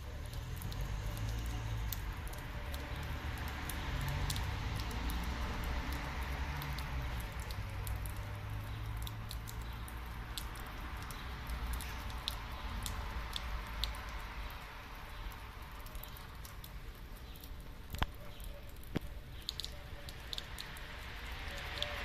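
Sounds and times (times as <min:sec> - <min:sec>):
water splashing onto stone: 0:00.0 - 0:22.0
small sharp ticks: 0:00.3 - 0:05.3, 0:06.6 - 0:14.6, 0:15.2 - 0:21.9.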